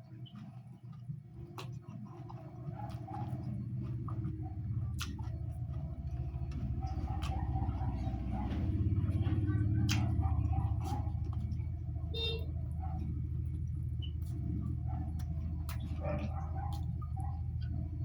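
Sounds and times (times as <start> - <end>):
chewing with wet smacks: 0.0 - 18.0
low background hum: 0.0 - 18.0.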